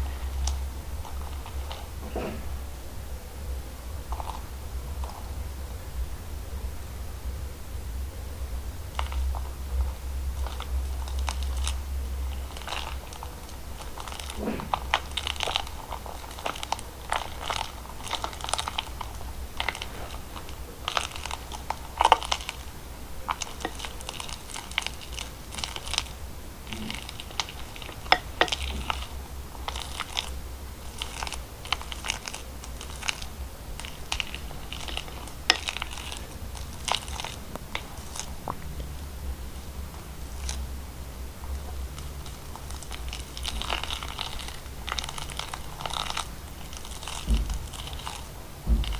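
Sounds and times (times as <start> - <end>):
slime clicking and crackling: 0.0 - 2.4, 3.8 - 5.4, 8.8 - 48.9
low steady hum: 0.0 - 48.9.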